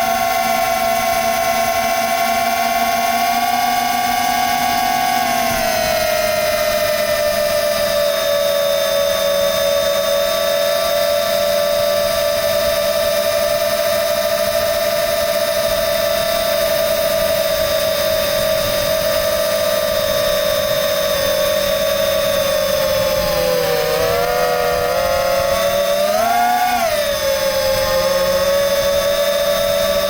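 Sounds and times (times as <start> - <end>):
drone motors high whine: 0.0 - 30.0.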